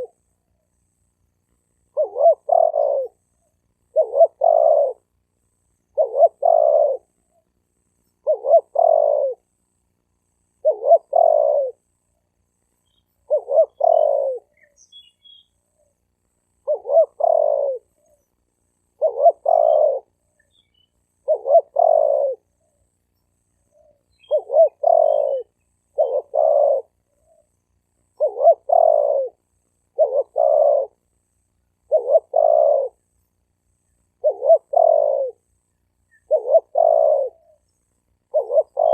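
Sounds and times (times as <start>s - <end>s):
dove cooing: 0.0s - 0.5s, 1.8s - 5.1s, 5.8s - 7.5s, 8.1s - 9.5s, 10.5s - 11.9s, 12.9s - 22.9s, 23.5s - 31.1s, 31.8s - 33.2s, 34.1s - 38.9s.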